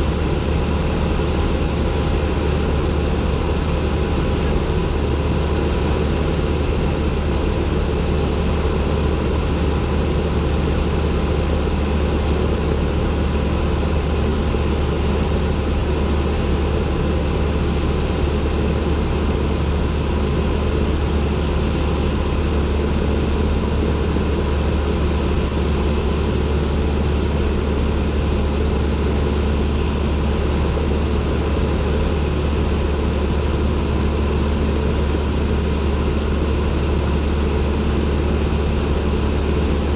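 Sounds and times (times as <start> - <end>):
airplane engine droning in cockpit: 0.0 - 39.9.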